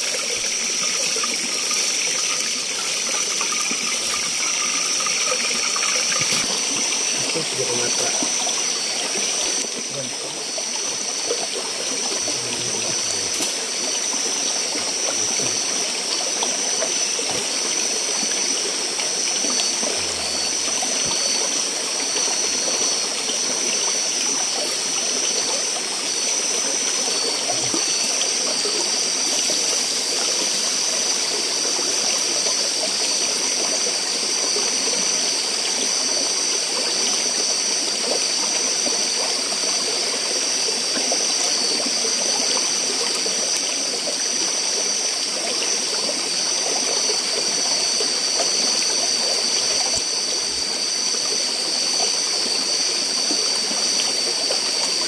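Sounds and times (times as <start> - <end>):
high-pitched whine: 0.0 - 55.0.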